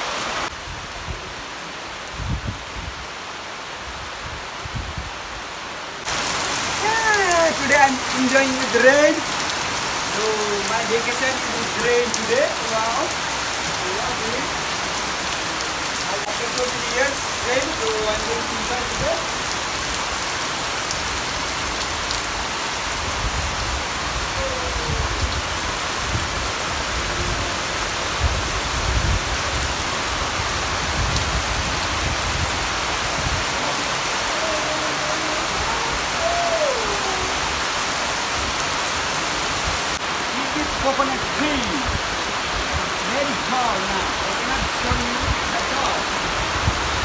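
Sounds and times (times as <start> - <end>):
heavy rain hiss: 0.0 - 47.0.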